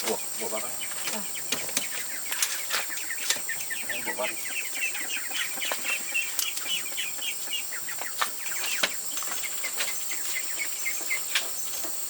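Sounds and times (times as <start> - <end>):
ducklings peeping: 0.0 - 12.0
high insect-like hiss: 0.0 - 12.0.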